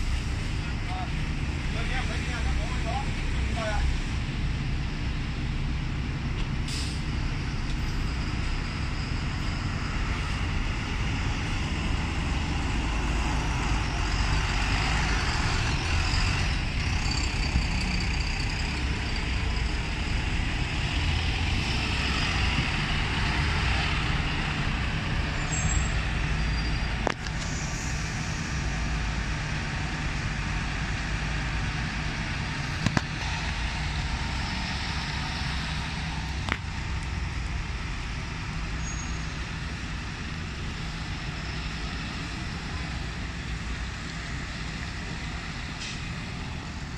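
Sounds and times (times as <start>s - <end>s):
bus diesel engine rumble: 0.0s - 46.9s.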